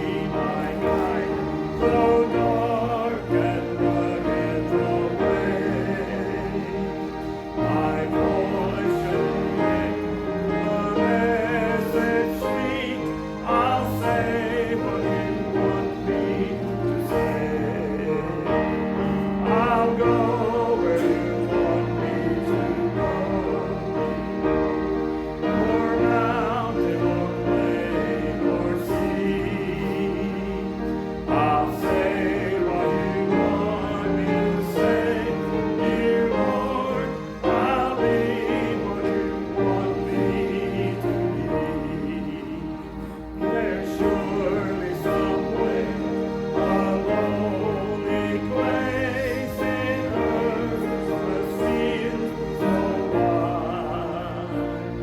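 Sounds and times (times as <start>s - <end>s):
congregation and choir singing: 0.0s - 55.0s
instrumental accompaniment: 0.0s - 55.0s.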